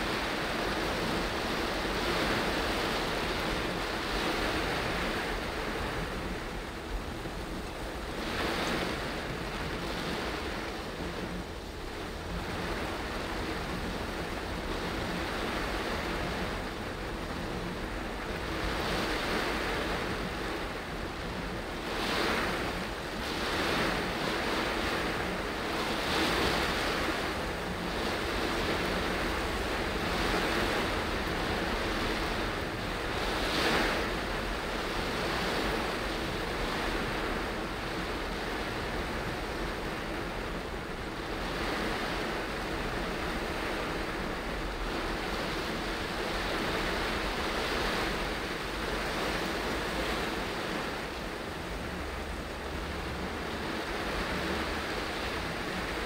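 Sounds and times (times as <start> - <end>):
heavy rain on a car: 0.0 - 56.0.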